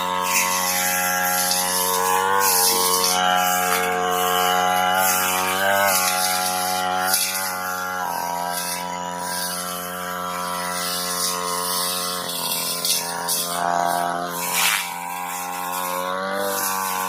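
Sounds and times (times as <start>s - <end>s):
brush cutter engine running: 0.0s - 17.0s
blade swishing through grass: 0.1s - 9.8s, 10.6s - 17.0s.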